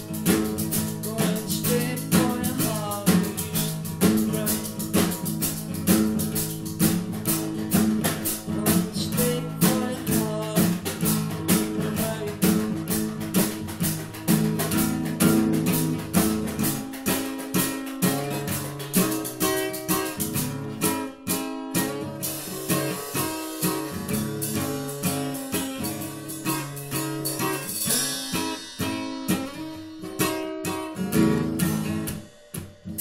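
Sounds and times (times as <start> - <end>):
acoustic guitar strumming chords: 0.0 - 33.0
snare drum and cymbal: 0.0 - 33.0.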